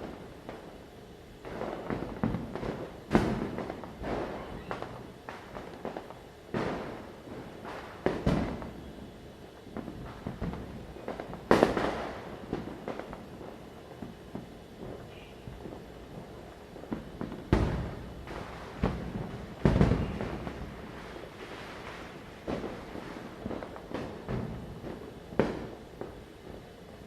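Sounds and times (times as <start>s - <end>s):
distant firecracker bangs: 1.4s - 9.1s, 9.7s - 26.6s.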